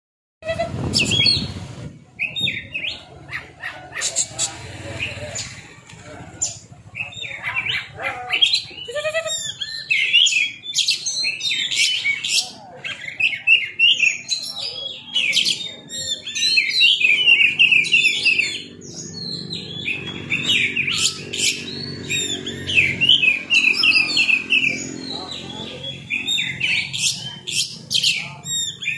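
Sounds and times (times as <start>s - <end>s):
bird singing whistles and chirps: 0.7s - 1.6s, 2.2s - 3.0s, 6.9s - 28.9s.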